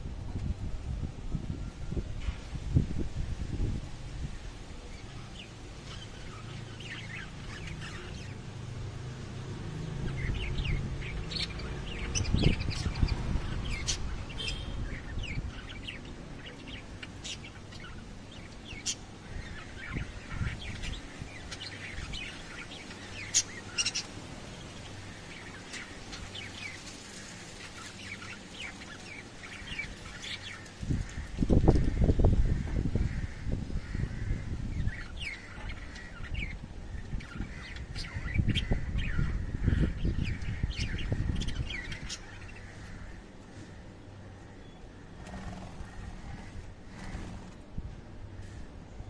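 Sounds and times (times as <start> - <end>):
lovebirds chirping: 3.6 - 47.6.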